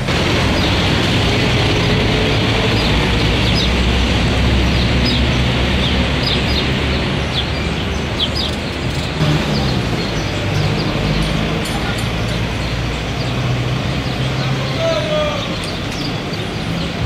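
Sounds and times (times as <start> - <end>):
low engine hum: 0.0 - 14.7
small birds chirping: 0.0 - 17.0
street noise: 0.0 - 17.0.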